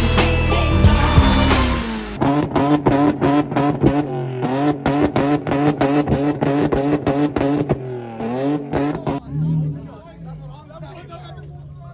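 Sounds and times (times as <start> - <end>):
car engine stuttering at high revs: 0.0 - 11.9.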